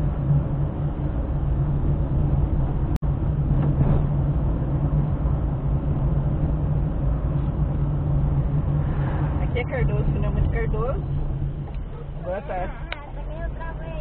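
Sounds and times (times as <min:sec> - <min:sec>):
car engine and road hum: 0:00.0 - 0:14.0.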